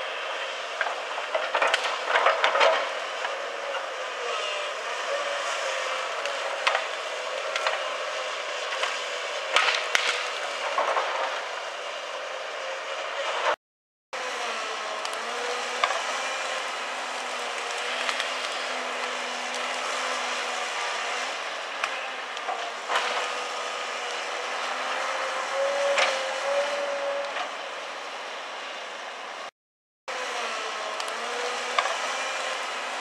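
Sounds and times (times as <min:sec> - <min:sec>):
excavator diesel engine whining: 0:00.0 - 0:13.6, 0:14.2 - 0:29.5, 0:30.1 - 0:33.0.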